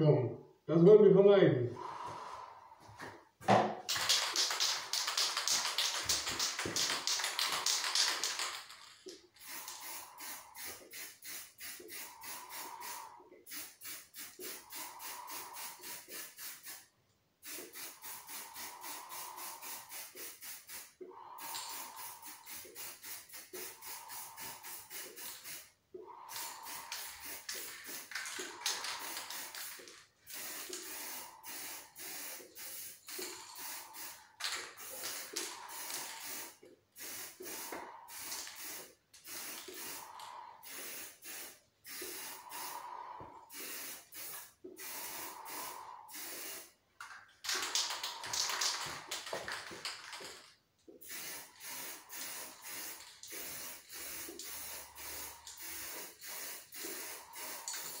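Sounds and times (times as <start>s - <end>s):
aerosol can spraying: 3.5s - 46.8s, 47.4s - 58.0s.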